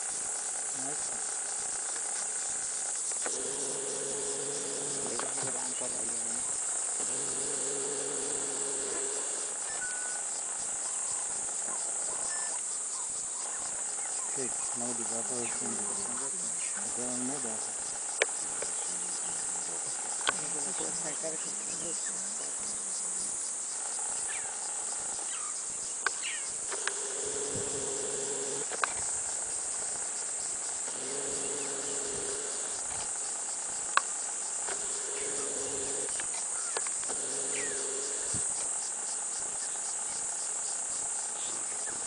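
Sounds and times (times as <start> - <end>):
high-pitched insect chorus: 0.0 - 42.0.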